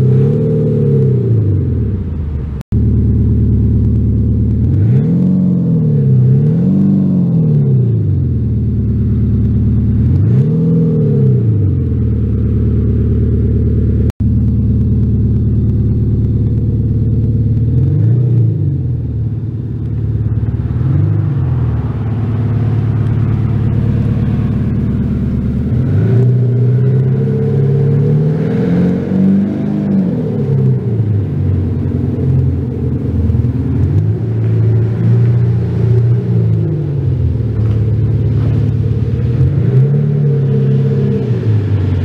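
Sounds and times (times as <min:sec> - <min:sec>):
deep car exhaust note: 0:00.0 - 0:42.0.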